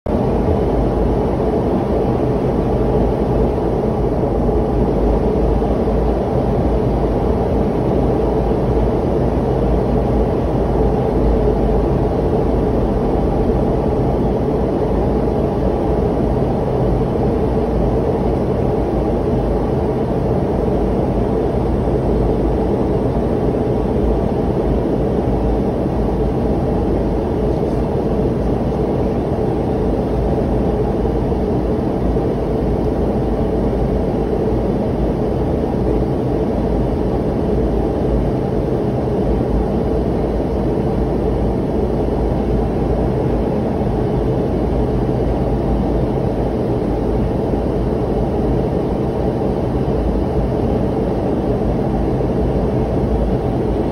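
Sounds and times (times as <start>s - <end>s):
airliner cabin engine rush: 0.1s - 53.9s
faint hum: 0.1s - 53.9s.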